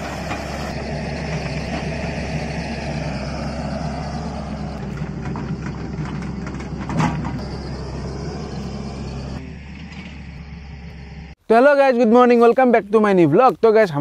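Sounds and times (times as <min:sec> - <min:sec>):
excavator diesel engine running: 0:00.0 - 0:11.4.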